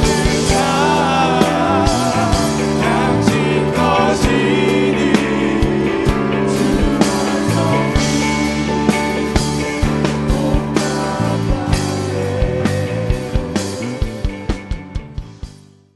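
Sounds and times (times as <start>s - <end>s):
man singing: 0.0s - 14.2s
worship band music: 0.0s - 15.5s
acoustic guitar: 0.0s - 15.9s.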